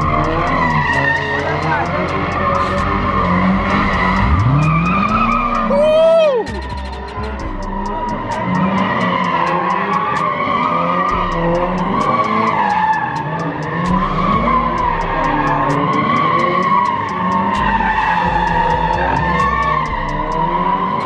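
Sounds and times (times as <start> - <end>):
car engine revving: 0.0 - 21.0
car tires squealing: 0.0 - 21.0.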